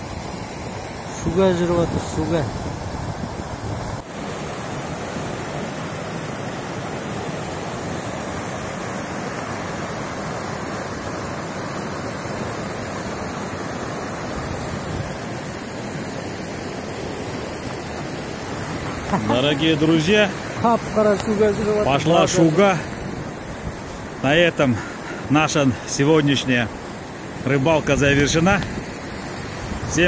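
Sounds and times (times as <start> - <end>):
river rushing over boulders: 0.0 - 30.0.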